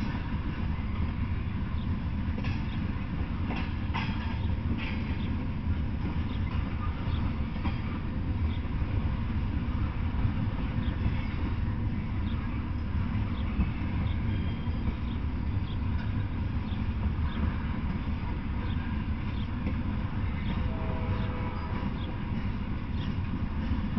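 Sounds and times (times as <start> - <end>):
freight train wheels rumbling: 0.0 - 23.9.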